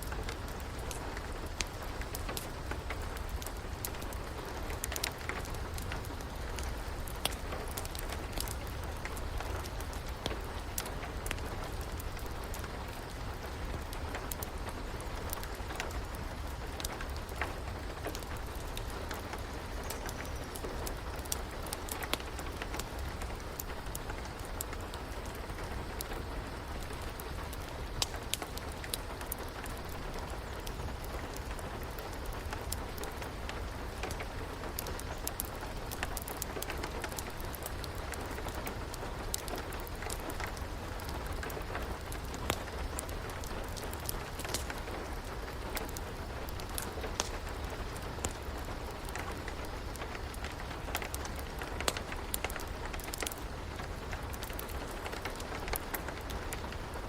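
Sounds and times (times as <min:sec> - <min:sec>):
sharp crackles and pops: 0:00.0 - 0:57.0
steady rain: 0:00.0 - 0:57.0.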